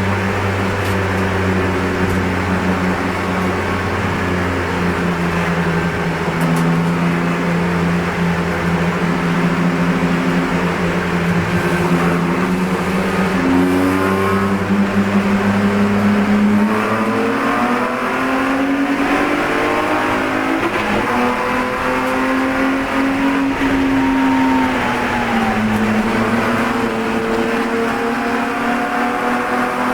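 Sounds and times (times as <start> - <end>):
race car engine accelerating: 0.0 - 29.9.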